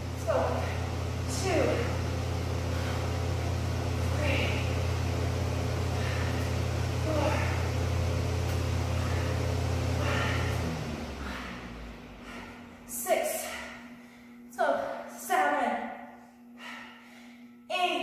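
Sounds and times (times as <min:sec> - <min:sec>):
low motor hum: 0:00.0 - 0:17.6.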